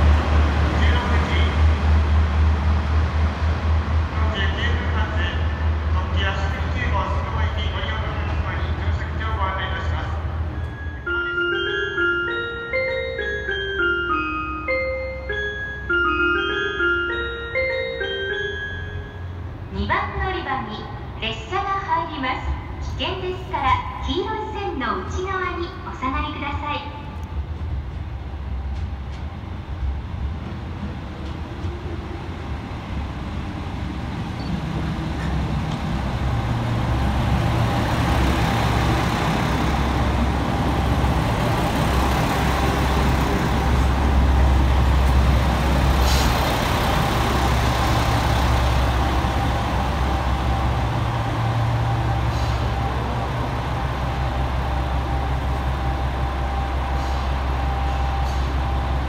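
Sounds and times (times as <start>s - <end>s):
diesel train engine drone: 0.0s - 59.0s.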